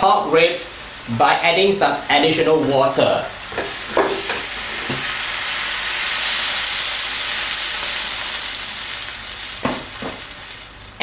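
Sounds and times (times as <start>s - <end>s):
water hissing in hot pan: 0.0s - 11.0s.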